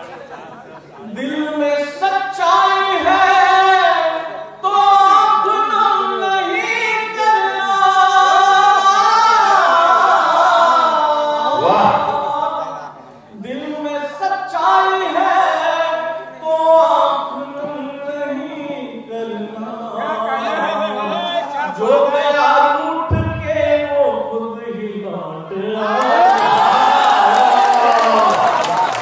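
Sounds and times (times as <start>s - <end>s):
man singing into a microphone: 1.1s - 26.0s.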